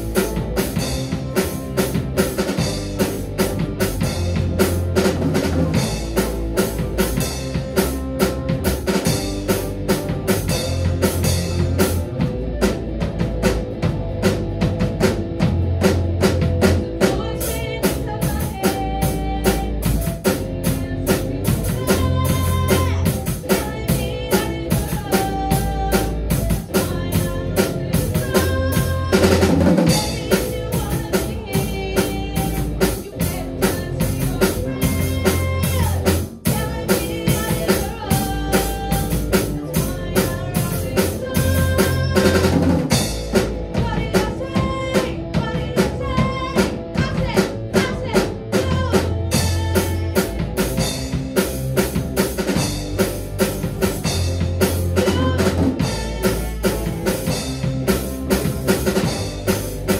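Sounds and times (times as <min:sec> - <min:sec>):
drum kit beat: 0:00.0 - 0:59.9
rock band playing: 0:00.0 - 0:59.9.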